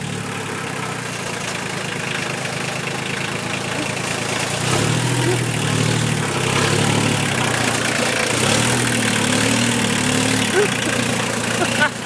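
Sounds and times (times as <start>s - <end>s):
tractor engine revving: 0.0s - 12.0s.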